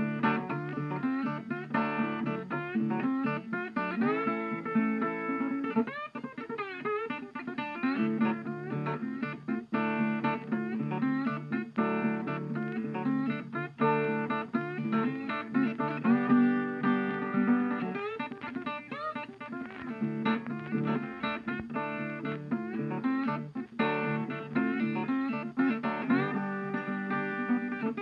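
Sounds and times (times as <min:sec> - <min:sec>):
plucked guitar music: 0:00.0 - 0:28.0.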